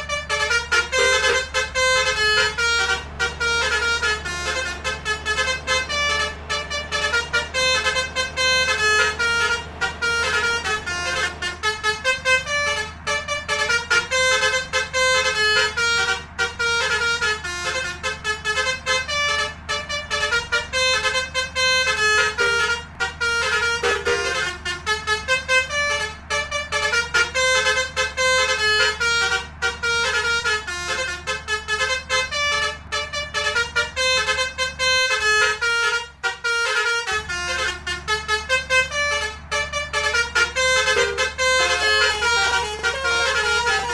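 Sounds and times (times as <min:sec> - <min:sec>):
low hum of bus: 0:00.0 - 0:43.9
multi-tone bus horn melody: 0:00.0 - 0:43.9.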